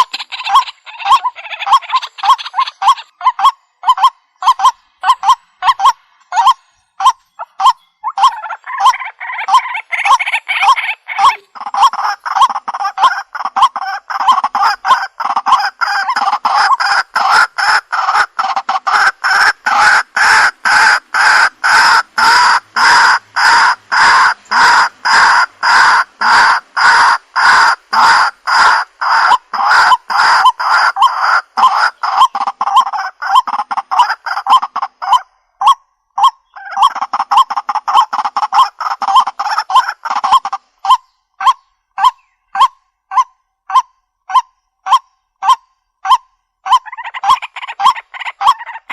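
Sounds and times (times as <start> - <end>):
waterhen croaking calls: 0.0 - 48.9.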